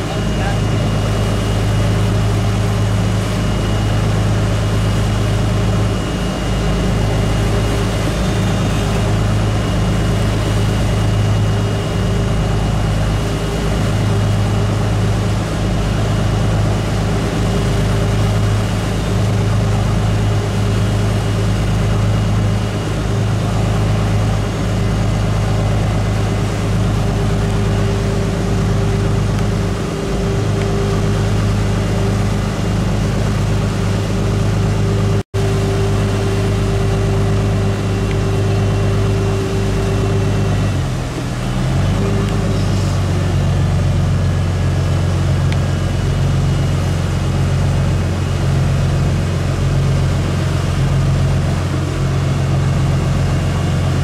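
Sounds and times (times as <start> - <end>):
boat engine droning: 0.0 - 54.0
churning wake rushing: 0.0 - 54.0.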